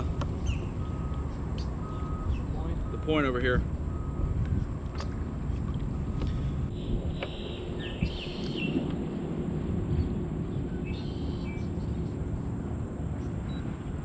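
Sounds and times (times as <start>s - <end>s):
birds chirping: 0.0s - 14.0s
low outdoor rumble: 0.0s - 14.0s.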